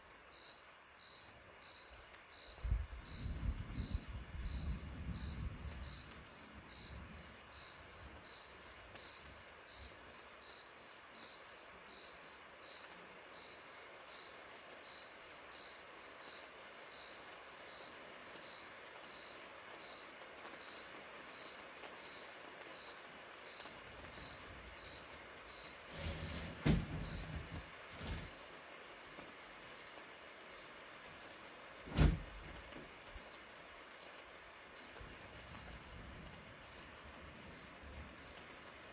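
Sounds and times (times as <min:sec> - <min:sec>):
faint background hiss: 0:00.0 - 0:38.9
cricket chirping: 0:00.2 - 0:32.2, 0:33.2 - 0:35.8, 0:36.6 - 0:38.4.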